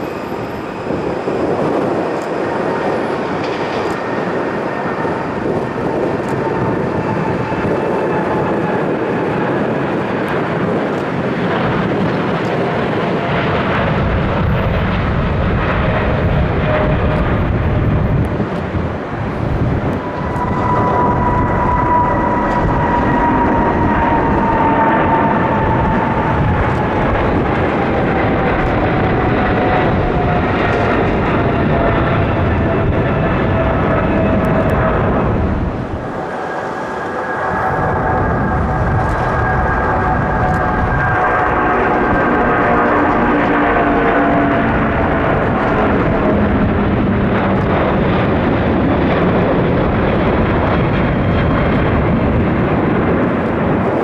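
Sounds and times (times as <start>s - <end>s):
high jet engine whine: 0.0s - 54.0s
jet engines rumbling: 0.0s - 54.0s.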